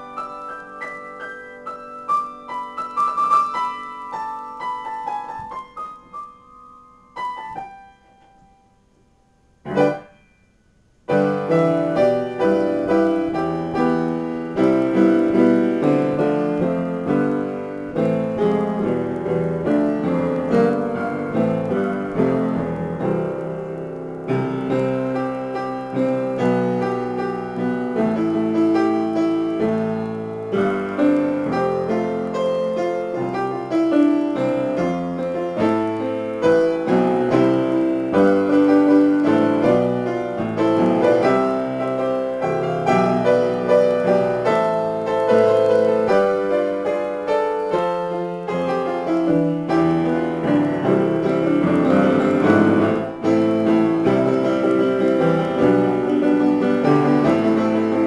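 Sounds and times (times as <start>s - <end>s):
solo piano improvisation: 0.0s - 58.0s.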